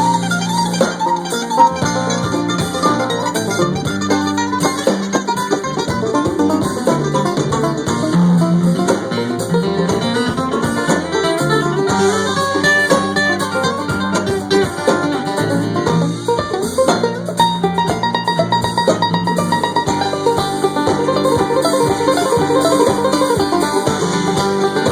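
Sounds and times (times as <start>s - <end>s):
bluegrass band playing: 0.0s - 24.9s
plucked banjo: 0.0s - 24.9s.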